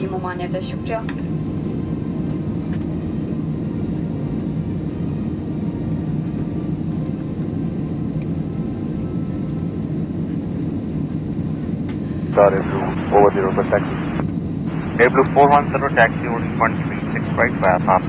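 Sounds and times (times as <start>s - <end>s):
aircraft cabin rumble and hum: 0.0s - 18.0s.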